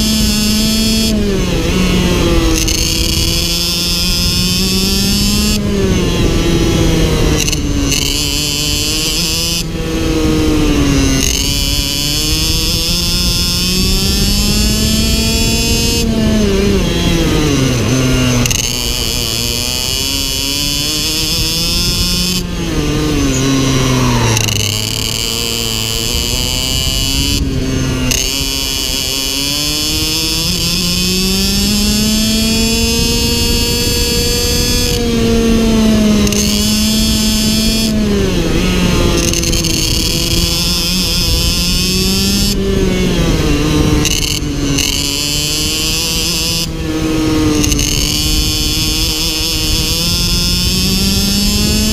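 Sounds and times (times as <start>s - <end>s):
kart engine revving: 0.0s - 51.9s.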